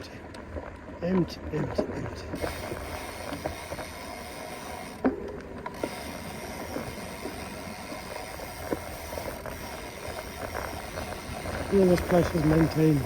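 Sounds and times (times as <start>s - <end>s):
bike tyres rolling rumble: 0.0s - 13.0s
bike clunks and rattles: 0.4s - 13.0s.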